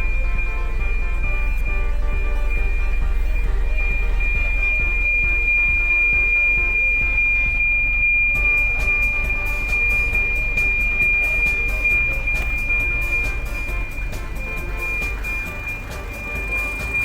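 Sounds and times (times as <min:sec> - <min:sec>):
background music with a beat: 0:00.0 - 0:17.0
steady high-pitched tone: 0:00.0 - 0:17.0.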